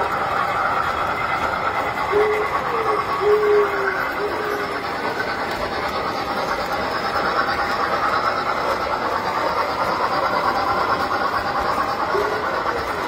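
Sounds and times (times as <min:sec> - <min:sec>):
toy trains rattling on metal track: 0:00.0 - 0:13.0.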